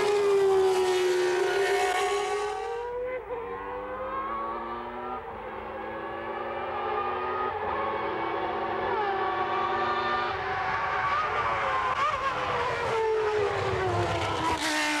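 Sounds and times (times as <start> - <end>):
car engines revving high: 0.0 - 15.0.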